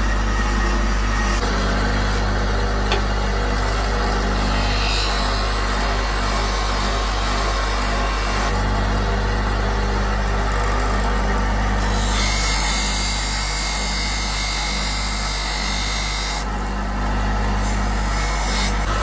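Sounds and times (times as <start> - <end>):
grinding wheel humming: 0.0 - 19.0.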